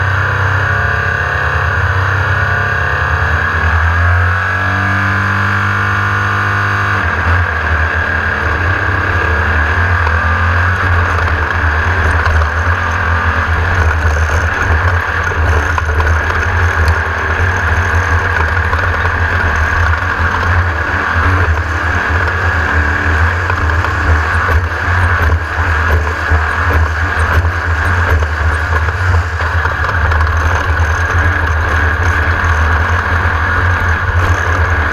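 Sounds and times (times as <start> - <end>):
race buggy engine running hard: 0.0 - 34.9.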